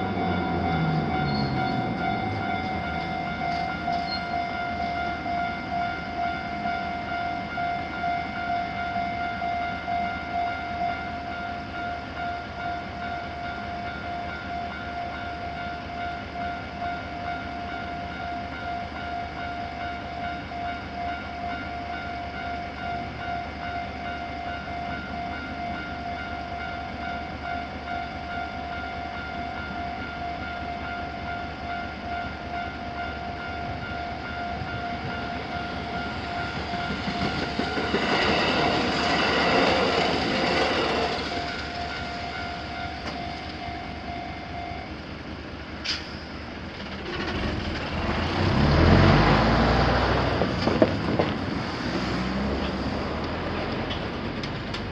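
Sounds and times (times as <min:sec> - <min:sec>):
railway crossing bells ringing: 0:00.0 - 0:54.9
train passing: 0:00.0 - 0:54.9.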